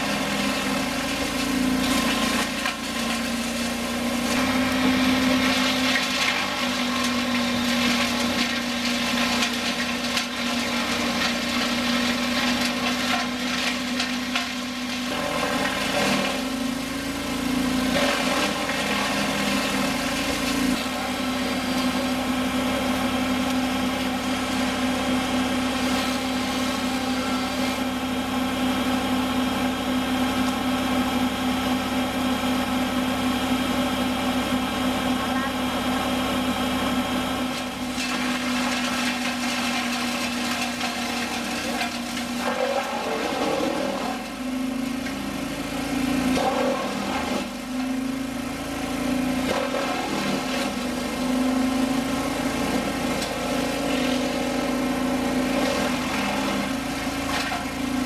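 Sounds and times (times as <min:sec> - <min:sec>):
wood chipper engine running: 0:00.0 - 0:58.0
wood chipper grinding branches: 0:00.0 - 0:58.0.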